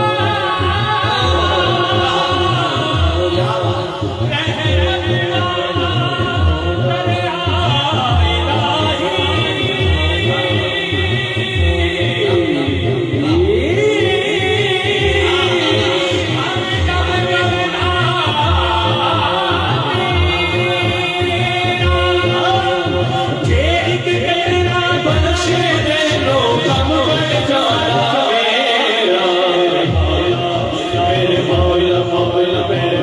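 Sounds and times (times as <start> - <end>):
steady low beat: 0.0 - 28.1
man singing into microphone: 0.0 - 33.0
other voices singing: 0.0 - 33.0.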